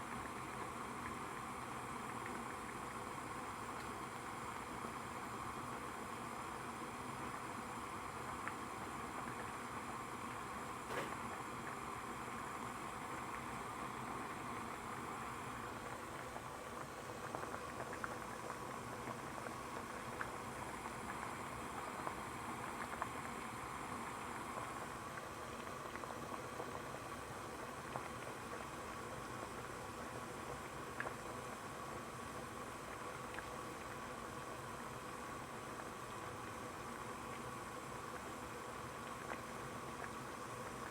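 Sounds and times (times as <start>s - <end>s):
water boiling and bubbling: 0.0s - 40.9s.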